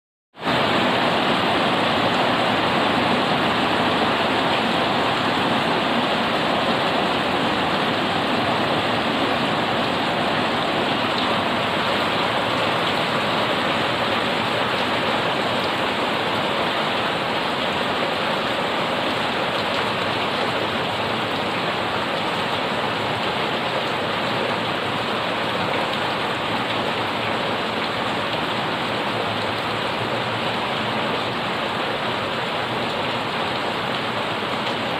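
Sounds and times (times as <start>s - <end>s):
heavy rain on leaves and pavement: 0.4s - 34.9s.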